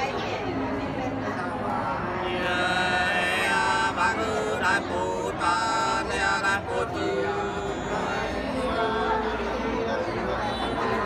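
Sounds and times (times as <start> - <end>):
voices singing folk song: 1.4 - 11.0.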